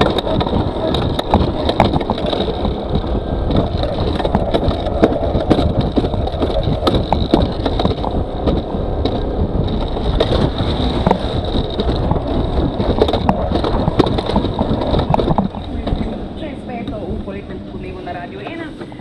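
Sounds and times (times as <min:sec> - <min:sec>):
sharp clacks over rail: 0:00.0 - 0:17.2
coaster wheels rumbling on rail: 0:00.0 - 0:19.0
high whine: 0:00.0 - 0:19.0.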